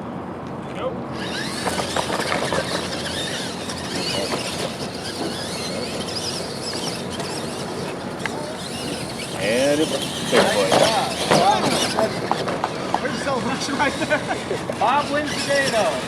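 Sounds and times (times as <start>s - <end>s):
rc trucks whining: 0.5s - 16.0s.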